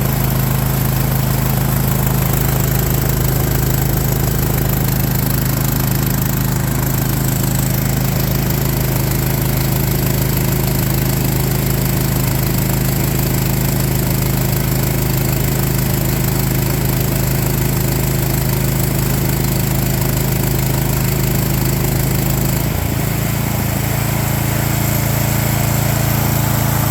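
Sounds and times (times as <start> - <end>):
small gas engine running: 0.0 - 26.9.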